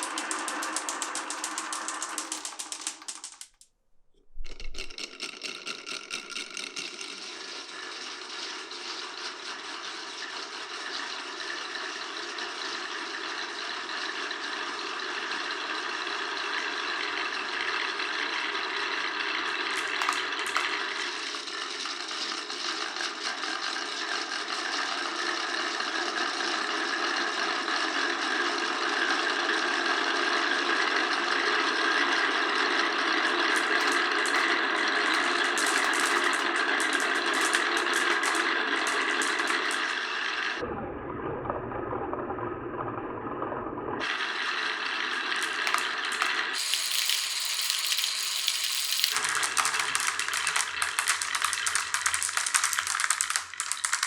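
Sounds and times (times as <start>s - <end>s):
marbles rolling on wooden run: 0.0s - 3.6s, 4.4s - 13.5s, 14.1s - 26.6s, 30.1s - 40.6s, 44.7s - 54.0s.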